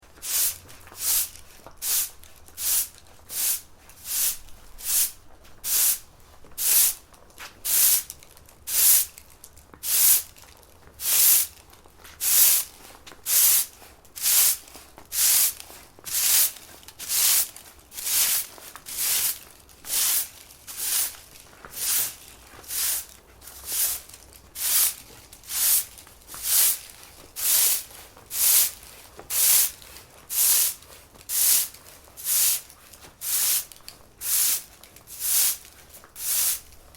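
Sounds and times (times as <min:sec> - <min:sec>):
broom sweeping floor: 0:00.0 - 0:09.2, 0:09.8 - 0:10.4, 0:11.0 - 0:36.9.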